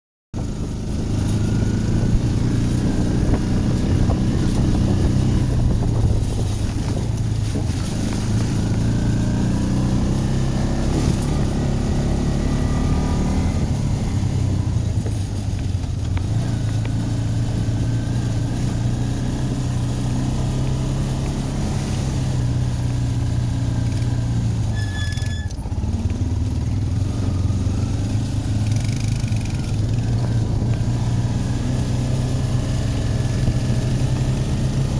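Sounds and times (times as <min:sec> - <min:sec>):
quad bike engine running: 0:00.4 - 0:34.9.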